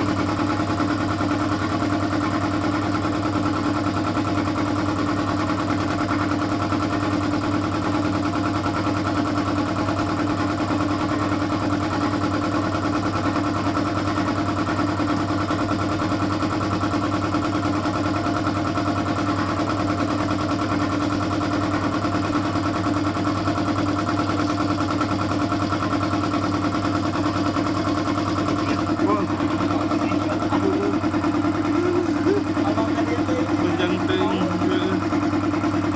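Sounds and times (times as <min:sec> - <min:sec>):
air compressor running: 0:00.0 - 0:35.9.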